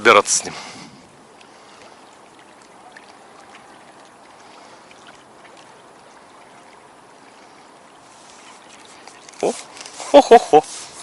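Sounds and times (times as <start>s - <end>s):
water lapping against bank: 0.0s - 11.0s
small faint splashes: 0.7s - 10.1s.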